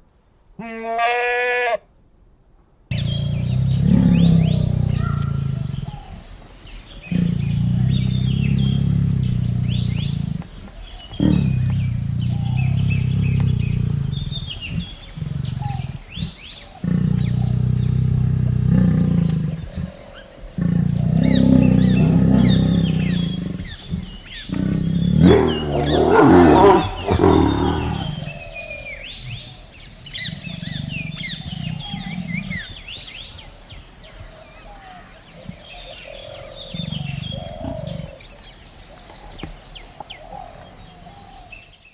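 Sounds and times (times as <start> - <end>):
large animal growling: 2.9 - 41.6
birds chirping: 2.9 - 41.9.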